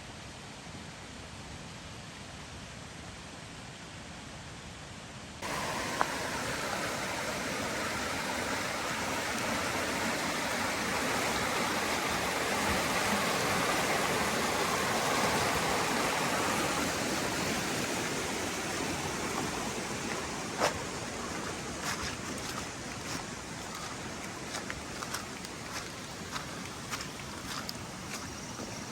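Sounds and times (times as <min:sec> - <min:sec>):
rushing water: 0:05.4 - 0:28.9.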